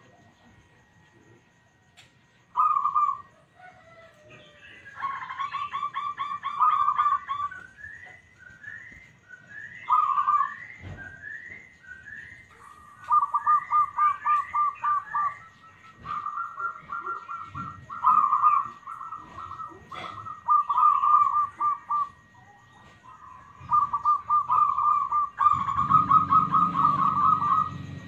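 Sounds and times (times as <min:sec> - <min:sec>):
dove cooing: 0:02.5 - 0:28.0.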